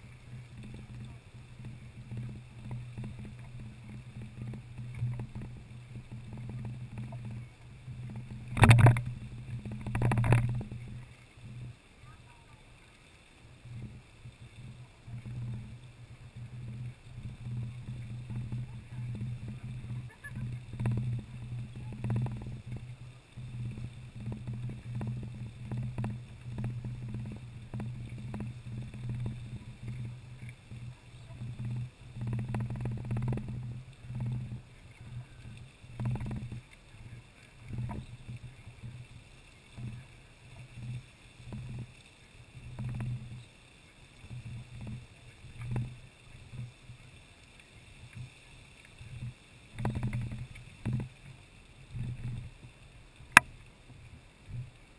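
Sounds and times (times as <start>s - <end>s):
geyser water rushing and splashing: 0.0s - 54.9s
low rumble of geyser: 0.0s - 54.9s.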